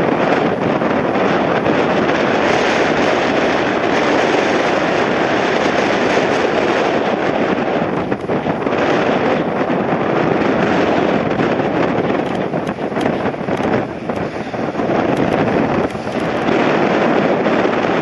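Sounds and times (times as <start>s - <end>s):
jet airliner engines running: 0.0s - 18.0s.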